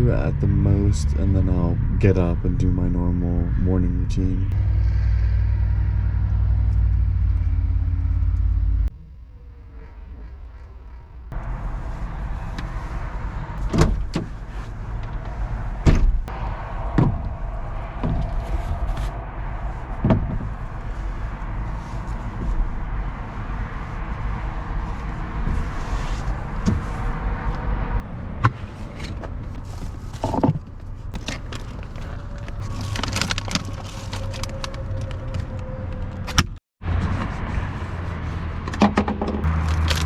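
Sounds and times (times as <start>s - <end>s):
vehicle low rumble: 0.0s - 40.0s.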